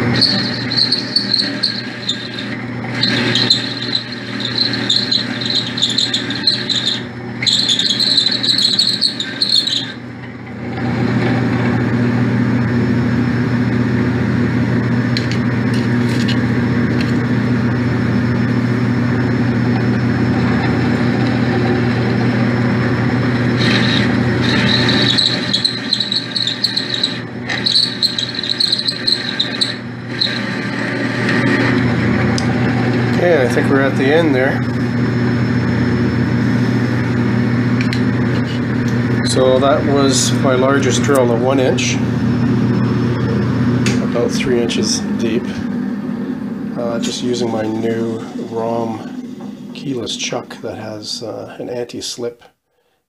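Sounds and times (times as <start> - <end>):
high wavering drill squeal: 0.0 - 11.6, 17.8 - 50.4
lathe machine hum: 0.0 - 51.8.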